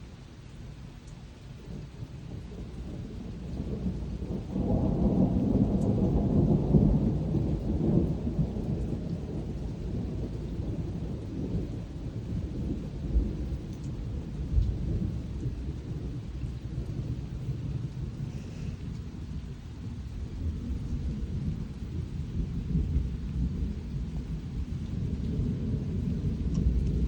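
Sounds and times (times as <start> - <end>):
steady rain: 0.0 - 27.0
thunder rumbling: 1.6 - 27.0.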